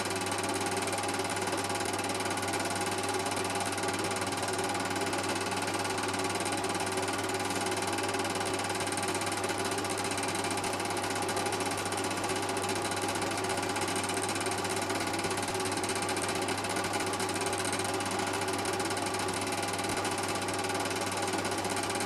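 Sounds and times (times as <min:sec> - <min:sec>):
film projector clatter: 0:00.0 - 0:22.0.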